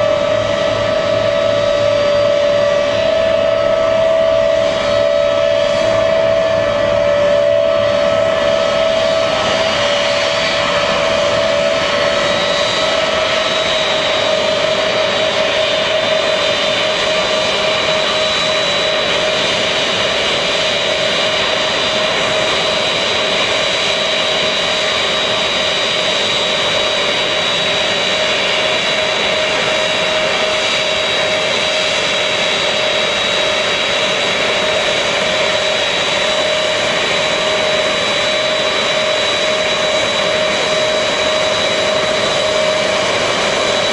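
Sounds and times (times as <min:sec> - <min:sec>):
aircraft engines running: 0:00.0 - 0:43.9.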